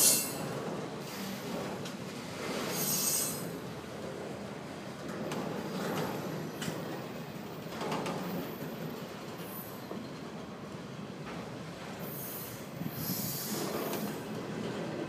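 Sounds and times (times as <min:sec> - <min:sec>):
sharp train clanks: 0:00.0 - 0:15.0
train wheels rumbling on rails: 0:00.0 - 0:15.0.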